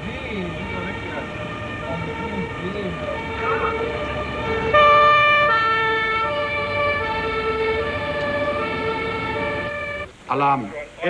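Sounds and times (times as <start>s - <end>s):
two-tone emergency siren: 0.0s - 10.1s.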